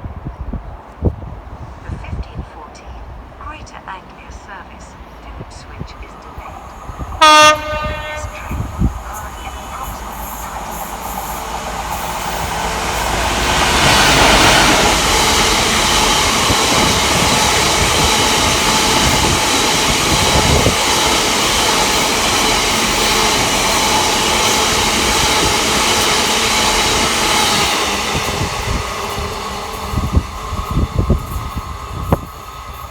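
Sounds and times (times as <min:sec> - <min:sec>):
train passing at speed: 0:00.0 - 0:32.9
wheels clickety-clack on rails: 0:05.6 - 0:32.9.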